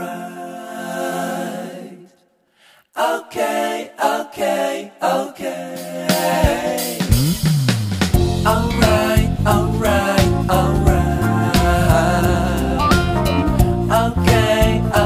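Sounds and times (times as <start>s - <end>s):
a cappella singing: 0.0s - 7.1s, 8.2s - 15.0s.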